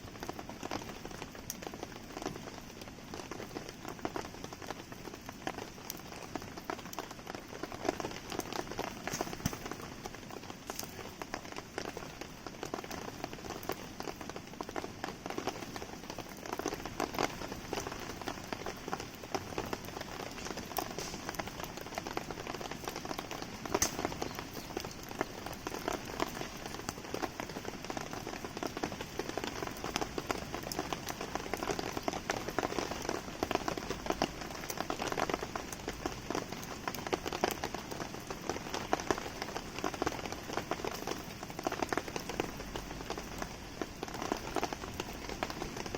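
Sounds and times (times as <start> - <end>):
campfire crackling and popping: 0.0 - 45.9
rain pattering: 0.0 - 45.9.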